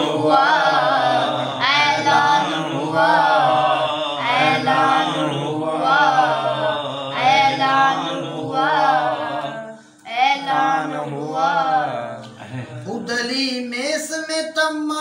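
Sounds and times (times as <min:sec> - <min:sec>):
voices chanting devotional song: 0:00.0 - 0:13.4.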